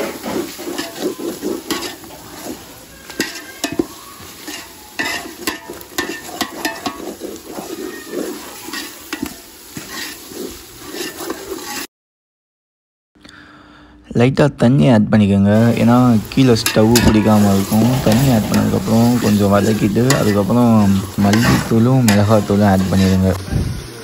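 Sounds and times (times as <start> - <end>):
frying sizzle: 0.0 - 11.9, 15.5 - 24.0
metal ladle scraping a metal pot: 0.0 - 11.9, 15.7 - 23.4.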